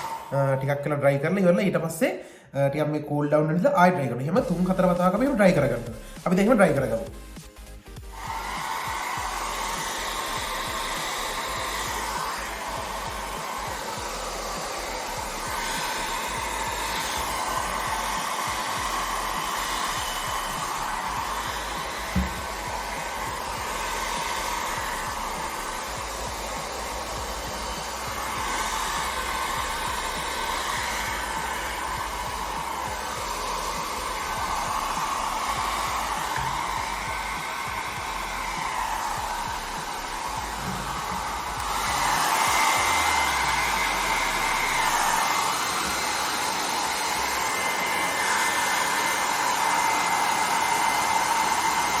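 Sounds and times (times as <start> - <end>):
hair dryer running: 0.0 - 0.6, 3.9 - 52.0.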